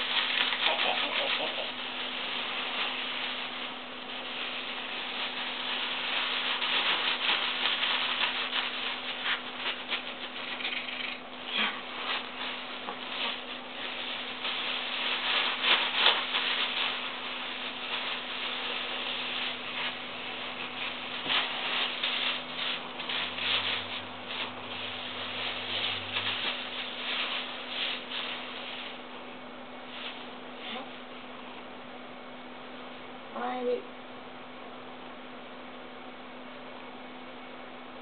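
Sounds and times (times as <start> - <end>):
plastic bag crinkling: 0.0 - 30.7
faint steady hum: 0.0 - 38.0.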